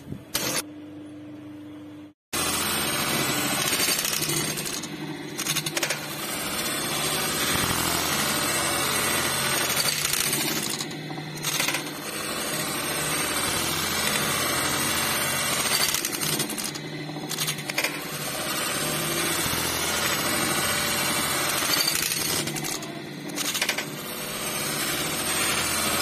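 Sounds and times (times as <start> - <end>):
sewing machine rattling: 2.4 - 26.0.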